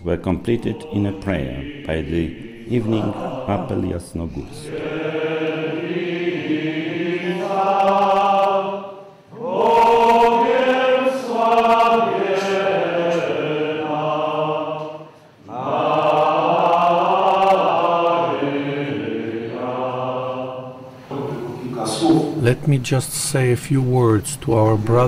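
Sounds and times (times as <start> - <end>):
voices singing a slow hymn: 0.1 - 22.5.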